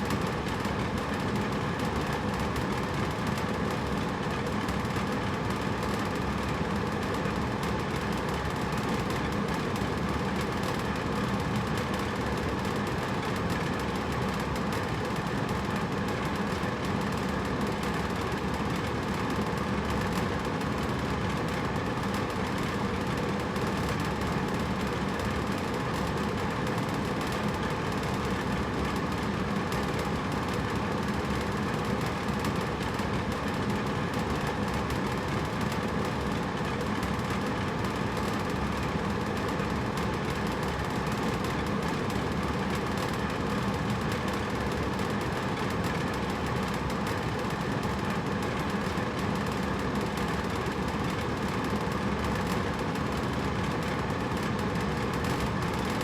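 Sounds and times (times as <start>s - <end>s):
air conditioner blowing air: 0.0s - 56.0s.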